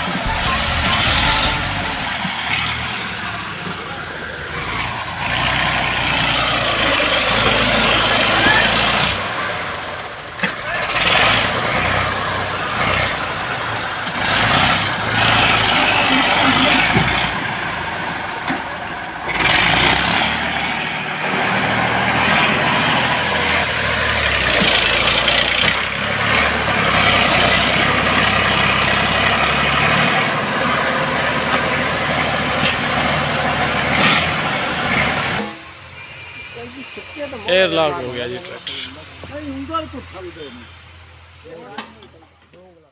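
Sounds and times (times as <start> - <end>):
tractor diesel engine running: 0.0 - 41.5.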